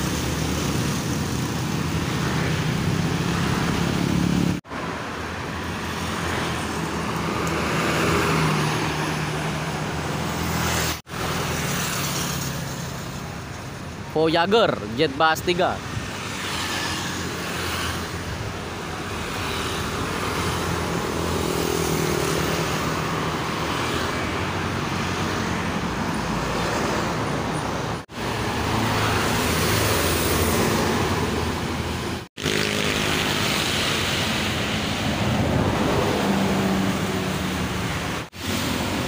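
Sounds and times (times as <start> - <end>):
bus engines: 0.0 - 39.0
motorcycles: 0.0 - 39.0.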